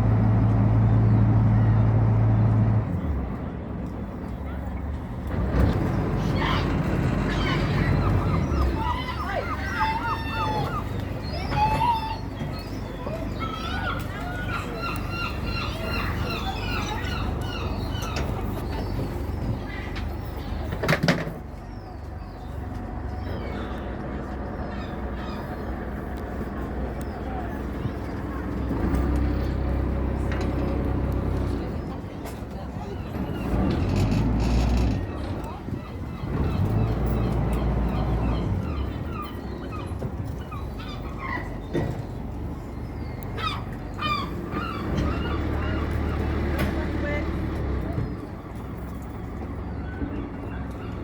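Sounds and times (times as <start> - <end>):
birds chirping: 0.7 - 51.0.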